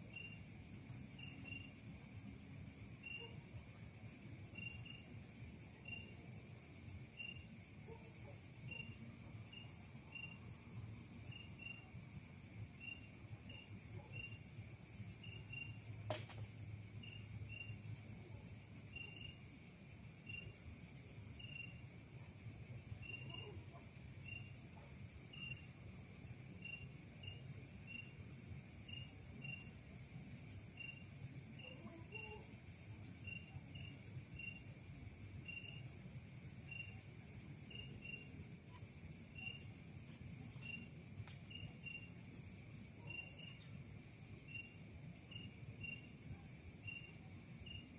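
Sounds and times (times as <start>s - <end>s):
crickets and insects chirping: 0.0s - 47.9s.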